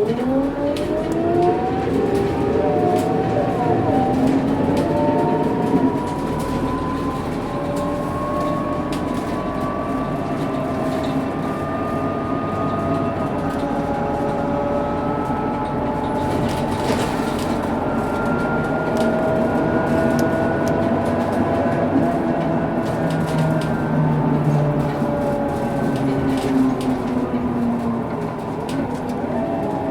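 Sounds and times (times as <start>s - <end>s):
bus engine: 0.0s - 29.9s
bus gear whine: 0.0s - 29.9s
lower whine: 0.0s - 29.9s
road noise: 0.0s - 29.9s.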